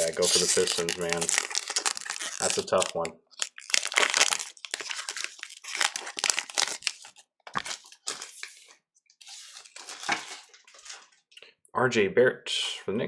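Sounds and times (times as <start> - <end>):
foil wrapper tearing and crinkling: 0.0 - 11.1.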